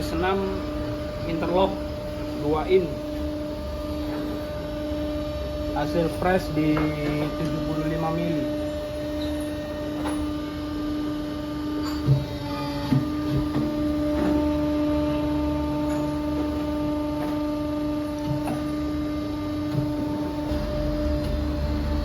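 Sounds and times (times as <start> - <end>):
electric pump motor humming: 0.0 - 22.0.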